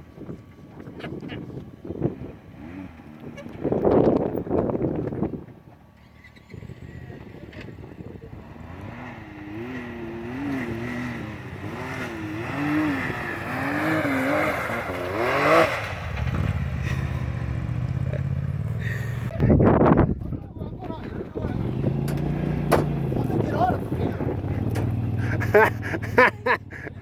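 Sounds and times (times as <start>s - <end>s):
utility vehicle engine revving: 1.2s - 20.1s, 20.8s - 27.0s.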